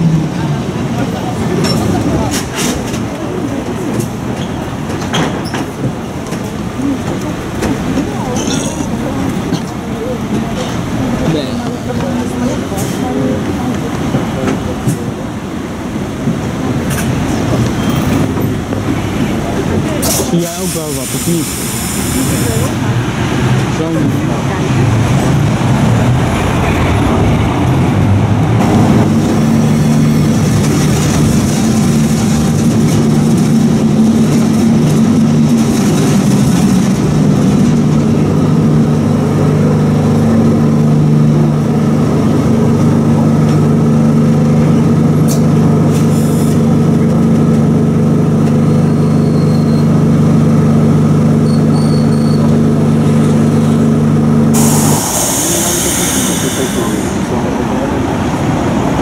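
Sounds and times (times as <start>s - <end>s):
tram rumbling: 0.0s - 59.0s.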